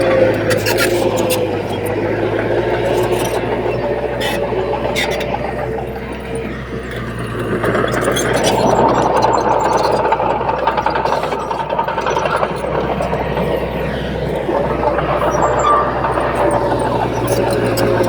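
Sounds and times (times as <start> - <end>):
bulldozer diesel engine: 0.0 - 18.0
machinery squeal: 0.0 - 18.0
mechanical clatter: 0.0 - 18.0.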